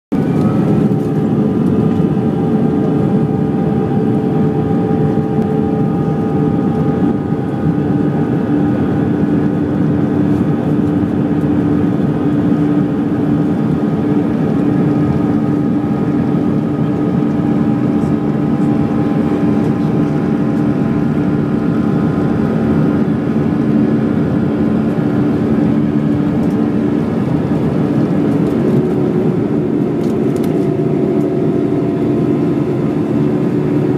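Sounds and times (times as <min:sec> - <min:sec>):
jet engines roaring: 0:00.1 - 0:33.9
steady humming tones: 0:00.1 - 0:33.9.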